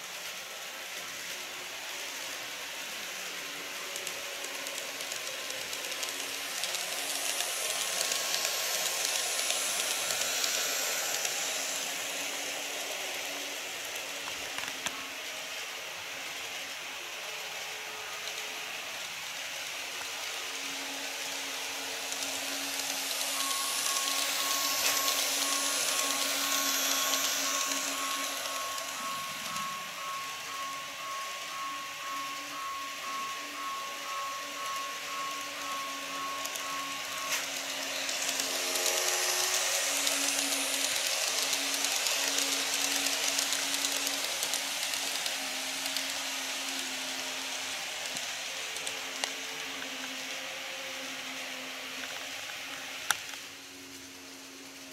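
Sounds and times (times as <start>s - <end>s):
model train motor hum: 0.0s - 54.9s
wheels rolling on rails: 0.0s - 54.9s.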